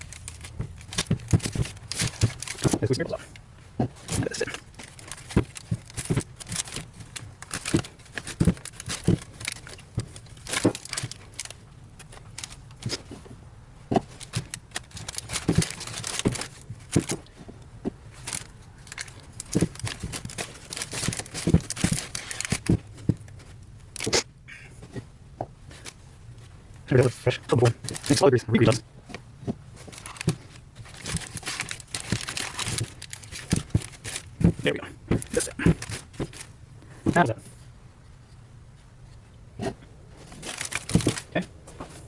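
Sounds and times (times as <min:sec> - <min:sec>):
hands packing grease into bearing: 0:00.0 - 0:37.4, 0:39.6 - 0:42.0.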